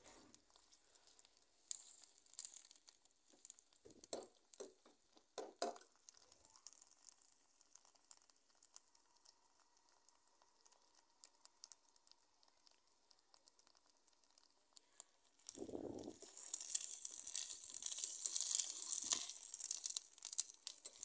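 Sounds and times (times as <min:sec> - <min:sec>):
onions frying crackle: 0:00.0 - 0:21.0.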